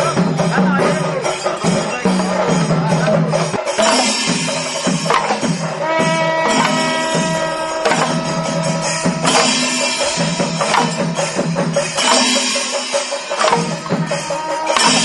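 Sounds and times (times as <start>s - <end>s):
drum ensemble playing fast rhythm: 0.0s - 15.0s.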